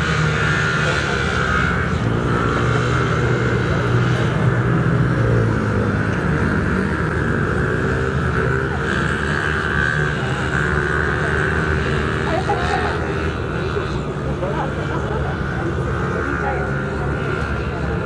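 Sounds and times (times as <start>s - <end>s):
motocross bike engines buzzing: 0.0s - 18.0s.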